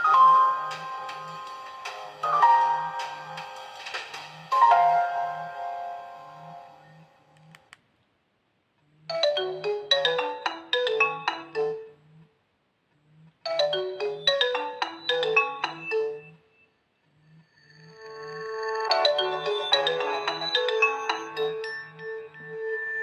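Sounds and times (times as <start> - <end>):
phone ringtone melody: 0.0 - 7.3, 9.1 - 12.2, 13.5 - 16.6, 17.8 - 23.0.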